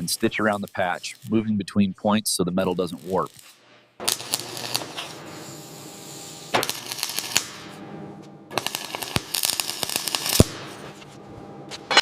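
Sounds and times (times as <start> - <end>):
welding arc crackling: 0.0 - 1.4, 2.6 - 11.0.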